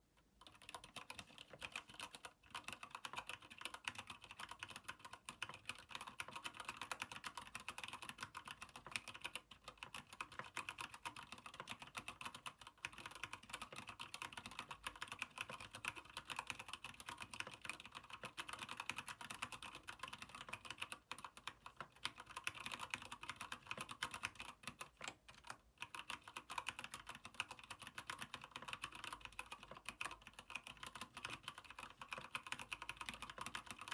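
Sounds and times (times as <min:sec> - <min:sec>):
mechanical keyboard typing: 0:00.4 - 0:33.9.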